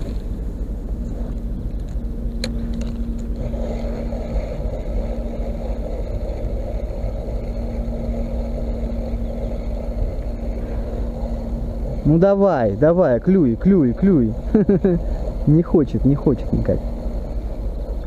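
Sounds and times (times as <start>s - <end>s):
faint steady hum: 0.0s - 18.0s
wind rumbling on microphone: 0.0s - 18.0s.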